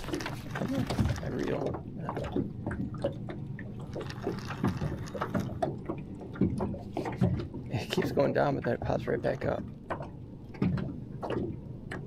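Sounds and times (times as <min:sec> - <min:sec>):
low steady rumble: 0:00.0 - 0:12.0
small waves lapping against boat: 0:00.0 - 0:12.0.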